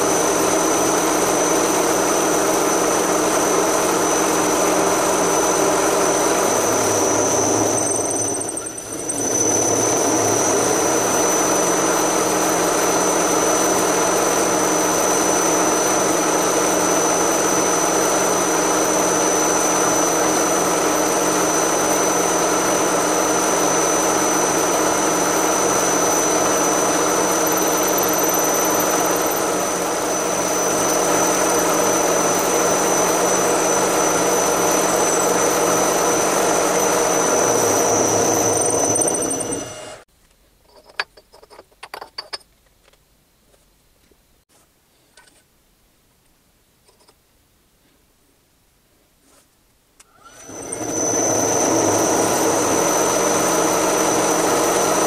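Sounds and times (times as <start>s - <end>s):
milling machine drilling metal: 0.0s - 40.0s, 50.2s - 55.0s.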